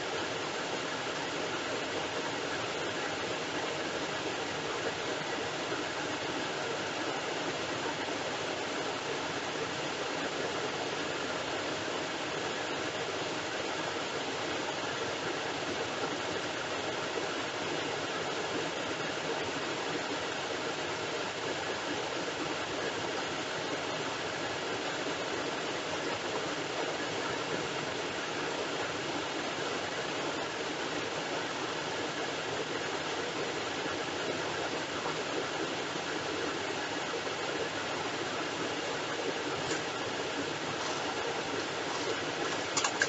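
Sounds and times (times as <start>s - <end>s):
steady radio hiss: 0.0s - 43.0s.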